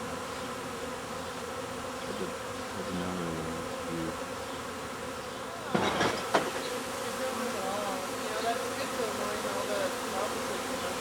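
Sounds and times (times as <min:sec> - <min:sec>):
honey bee swarm buzzing: 0:00.0 - 0:11.0
single bees whining past: 0:00.0 - 0:11.0.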